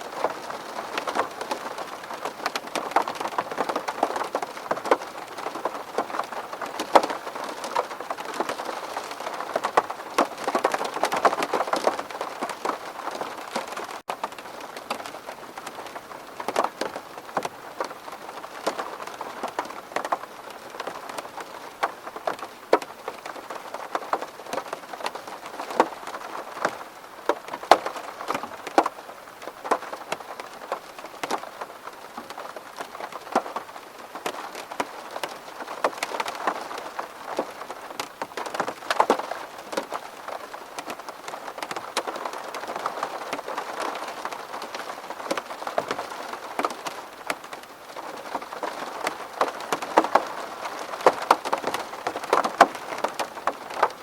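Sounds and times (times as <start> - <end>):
rainfall hiss: 0.0 - 54.0
raindrops clicking on glass: 0.1 - 15.0, 20.8 - 31.6, 34.2 - 54.0.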